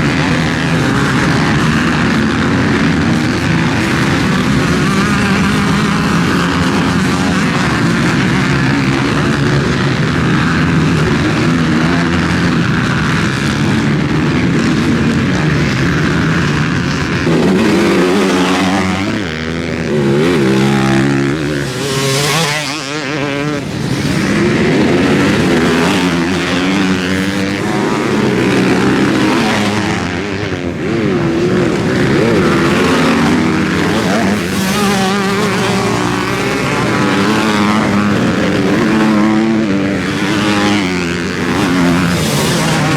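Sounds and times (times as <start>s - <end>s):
motocross bike engines revving: 0.0s - 42.9s
motorbike passing close: 0.0s - 42.9s.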